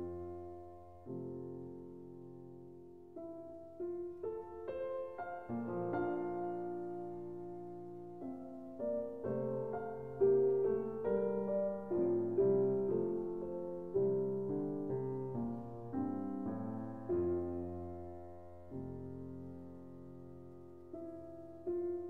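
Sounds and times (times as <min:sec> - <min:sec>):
slow solo piano melody: 0:00.0 - 0:22.0.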